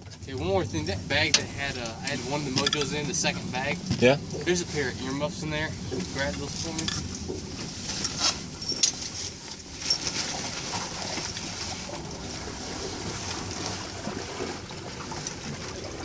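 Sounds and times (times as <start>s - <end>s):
water lapping around a boat: 0.0s - 16.0s
wind: 0.0s - 16.0s.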